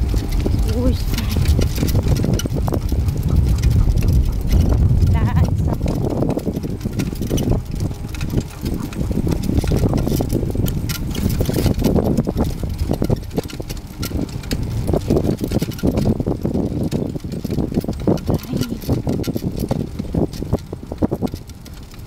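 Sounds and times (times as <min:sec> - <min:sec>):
cart wheels rumbling on road: 0:00.0 - 0:22.0
metal frame rattling: 0:00.0 - 0:22.0.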